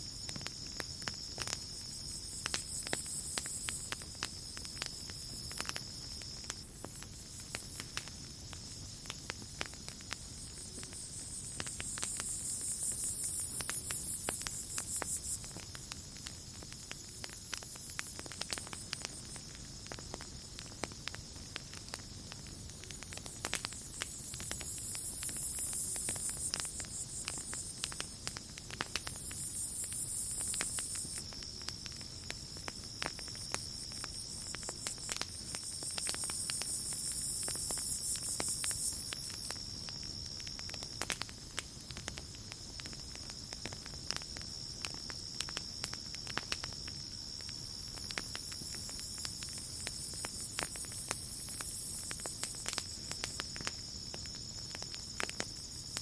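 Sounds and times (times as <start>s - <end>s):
campfire crackling and popping: 0.0s - 56.0s
night insects chirring: 0.0s - 56.0s.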